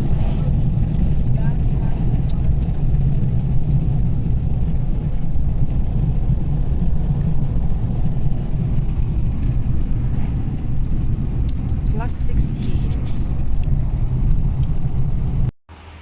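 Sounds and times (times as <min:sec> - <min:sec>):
road rumble in car cabin: 0:00.0 - 0:15.5
car engine drone: 0:00.0 - 0:16.0.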